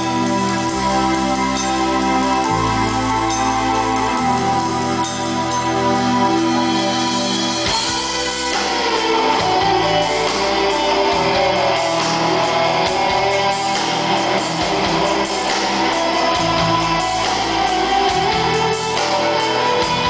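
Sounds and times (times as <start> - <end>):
rock band with loud electric guitars: 0.0 - 20.0.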